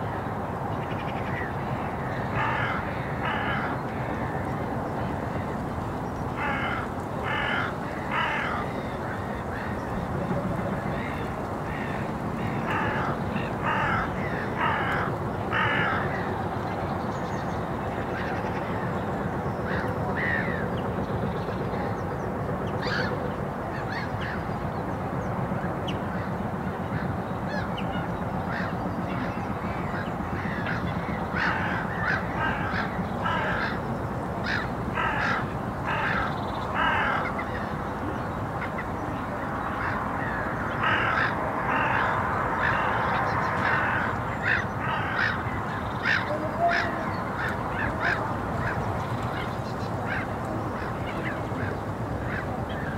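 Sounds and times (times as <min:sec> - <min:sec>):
birds calling harshly: 0:00.8 - 0:04.6, 0:05.3 - 0:21.6, 0:22.6 - 0:24.6, 0:25.9 - 0:52.9.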